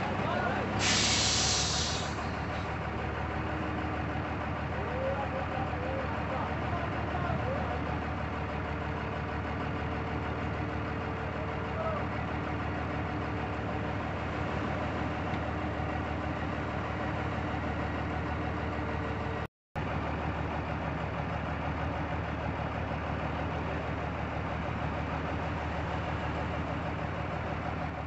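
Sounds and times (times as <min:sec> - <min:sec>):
heavy machinery engine idling: 0:00.0 - 0:28.0.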